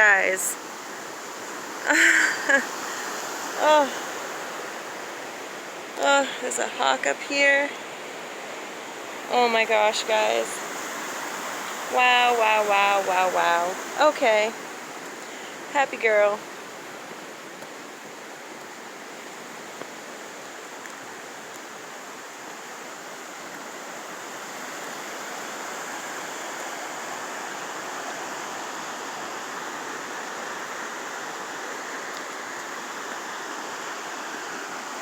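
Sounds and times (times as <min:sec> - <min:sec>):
waterfall rushing over rock: 0:00.0 - 0:35.0.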